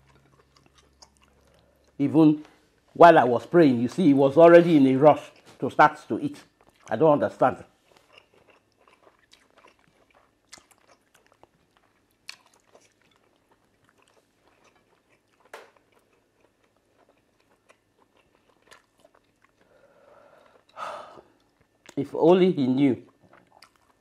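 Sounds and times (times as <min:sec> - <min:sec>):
people chewing: 0:00.0 - 0:02.9, 0:05.1 - 0:07.0, 0:07.8 - 0:22.0, 0:23.1 - 0:24.0.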